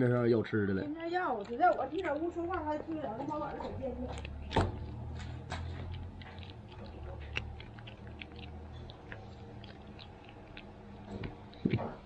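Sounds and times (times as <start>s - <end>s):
cat crunching dry kibble: 0.0s - 12.0s.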